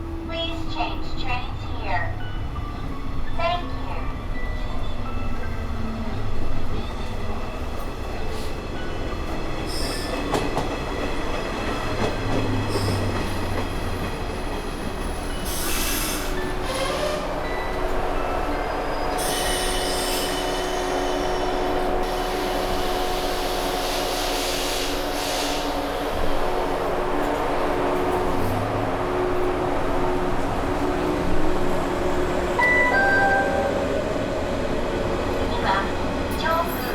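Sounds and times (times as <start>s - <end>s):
train rail rumble: 0.0s - 36.9s.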